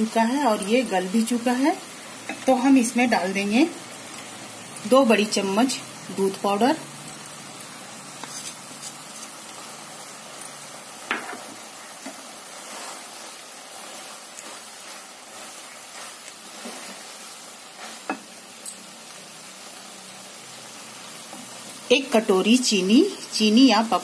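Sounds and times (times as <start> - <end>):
carrots sizzling in pan: 0.0 - 24.0.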